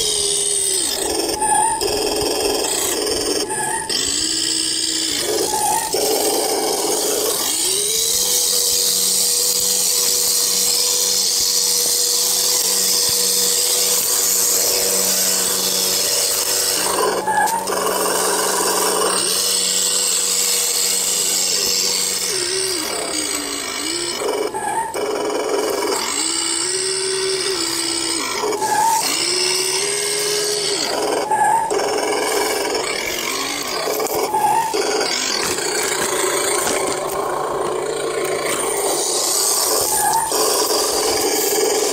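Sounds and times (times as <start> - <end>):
rc truck motor whining: 0.0 - 41.9.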